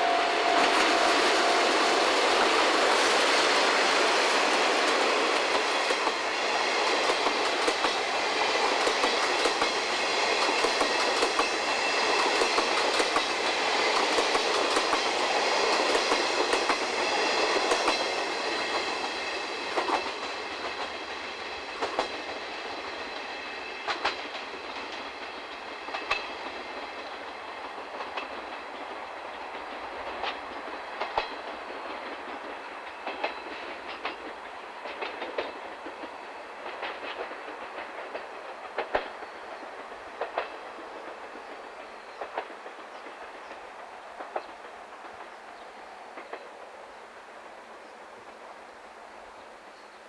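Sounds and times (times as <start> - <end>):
train wheels clacking over rail joints: 0.0 - 46.7
train rolling rumble: 0.0 - 49.4.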